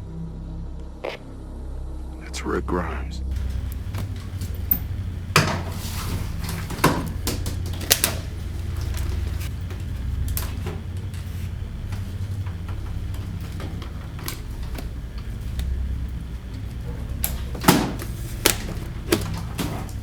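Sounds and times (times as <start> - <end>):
steady low hum: 3.2 - 20.0
sharp clicks and knocks: 3.3 - 20.0.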